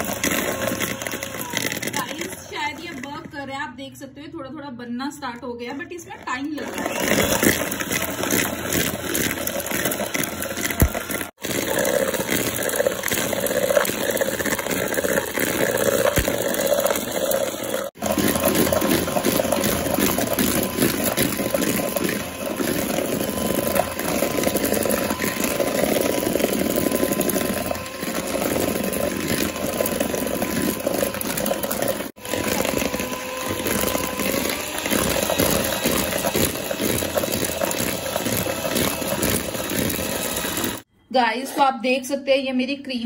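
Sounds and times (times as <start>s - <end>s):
electric hand mixer whirring: 0.0s - 3.8s, 5.2s - 40.9s.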